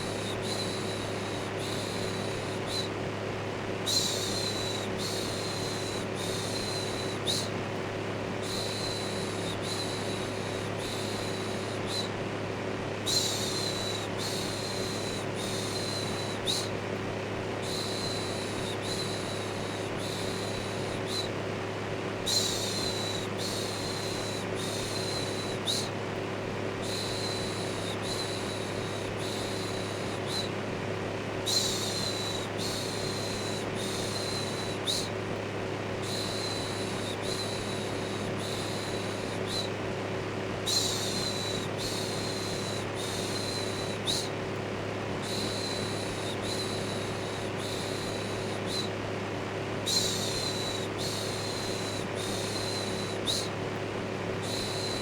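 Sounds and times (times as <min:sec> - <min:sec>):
electric fan whirring: 0:00.0 - 0:55.0.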